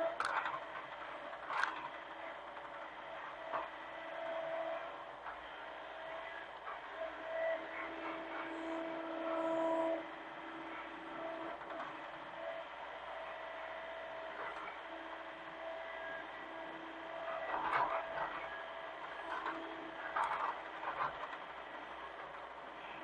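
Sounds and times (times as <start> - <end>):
mini excavator running: 0.0 - 23.0.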